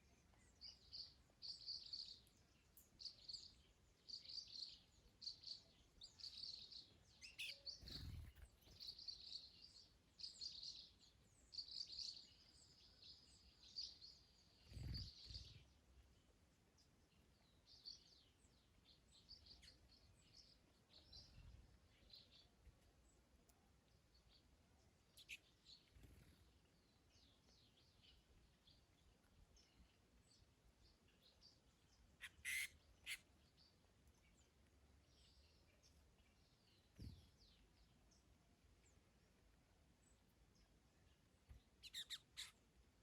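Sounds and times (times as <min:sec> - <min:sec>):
faint bird chirps: 0:00.0 - 0:39.4, 0:40.0 - 0:42.7.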